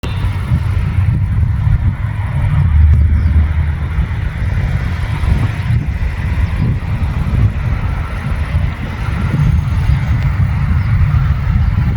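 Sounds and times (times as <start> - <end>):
combine harvester rumbling: 0.0 - 11.9.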